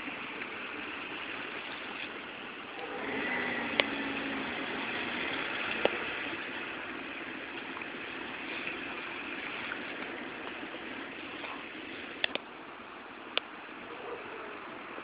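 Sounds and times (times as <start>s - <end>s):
street traffic noise: 0.0s - 15.0s
vehicle engine low hum: 0.0s - 15.0s.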